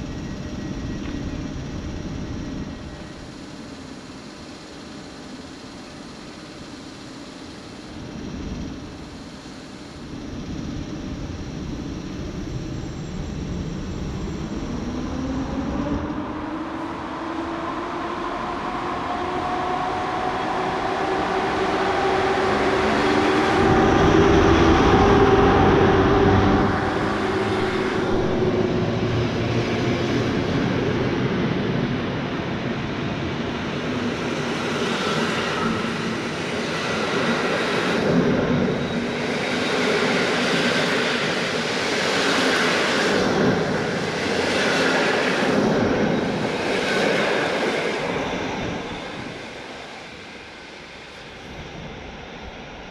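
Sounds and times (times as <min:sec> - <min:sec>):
electric locomotive hum: 0:00.0 - 0:52.9.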